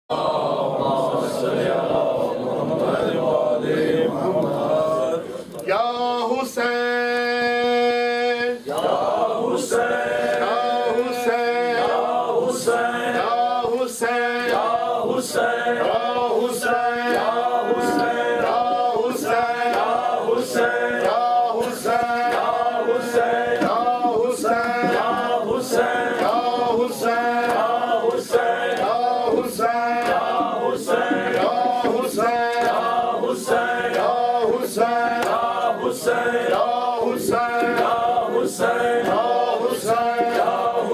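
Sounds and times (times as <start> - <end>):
rhythmic chest slaps: 0.1 - 7.8, 8.6 - 40.9
men chanting unaccompanied: 0.1 - 40.9.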